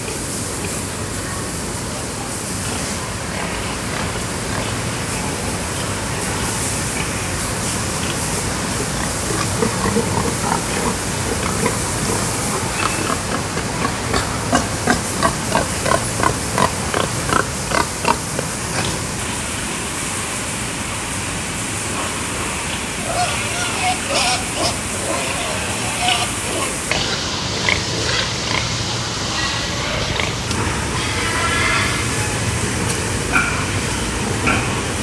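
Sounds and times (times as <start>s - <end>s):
steady hiss: 0.0s - 35.0s
pigs grunting: 3.1s - 19.7s, 22.0s - 35.0s.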